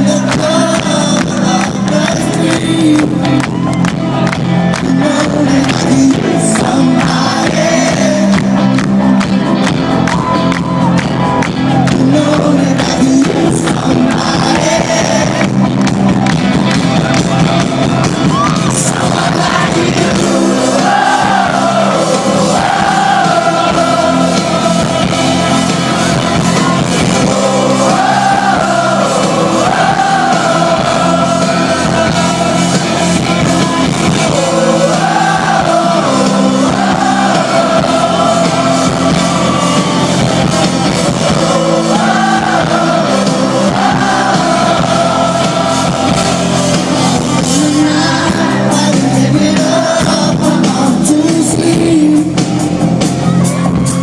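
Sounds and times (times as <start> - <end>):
lead vocal singing: 0.0 - 9.1, 11.7 - 16.0, 16.9 - 52.7
rock band playing live: 0.0 - 54.0.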